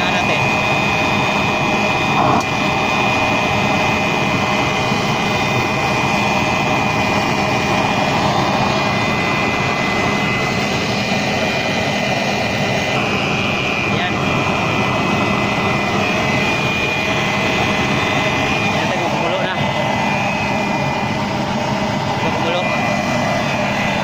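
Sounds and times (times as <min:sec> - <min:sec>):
faint high whine: 0:00.0 - 0:24.0
forced air and flame rushing: 0:00.0 - 0:24.0.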